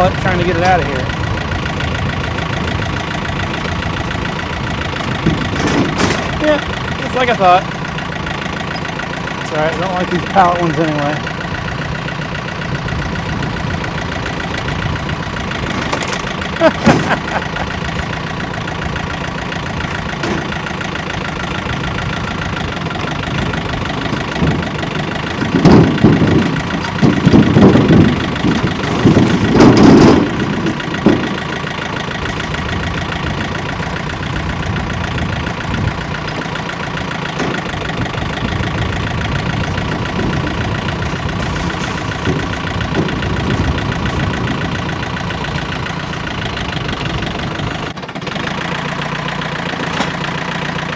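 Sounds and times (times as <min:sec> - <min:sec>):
machine engine running: 0:00.0 - 0:50.9
loud irregular knocking and clattering: 0:00.1 - 0:50.9.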